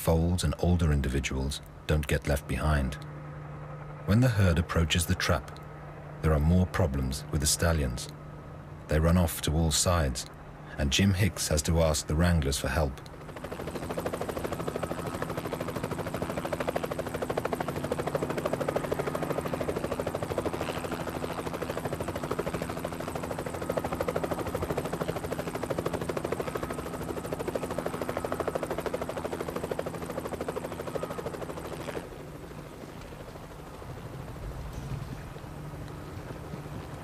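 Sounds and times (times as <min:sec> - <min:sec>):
helicopter engine hum: 0:00.0 - 0:37.0
helicopter rotor chopping: 0:00.0 - 0:37.0.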